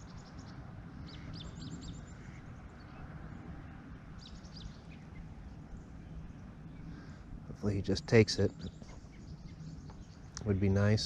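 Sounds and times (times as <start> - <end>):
bird chirping: 0.0 - 7.2, 8.0 - 11.0
steady low rumble: 0.0 - 11.0.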